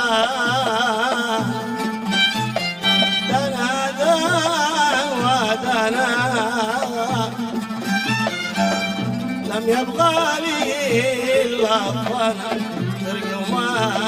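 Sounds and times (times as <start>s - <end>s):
folk melody with vibrato: 0.0s - 14.0s
low drum beat: 0.0s - 14.0s.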